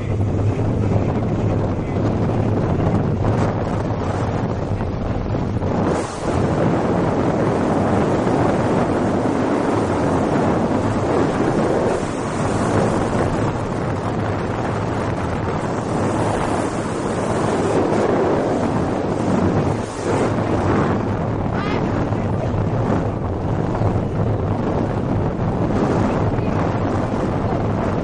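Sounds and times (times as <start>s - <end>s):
rushing water: 0.0s - 28.0s
wind buffeting microphone: 0.0s - 28.0s.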